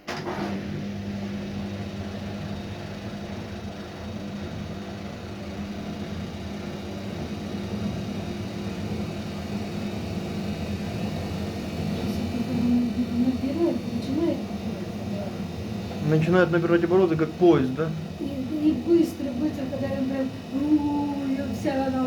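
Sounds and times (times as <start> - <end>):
washing machine spinning hum: 0.0 - 22.0.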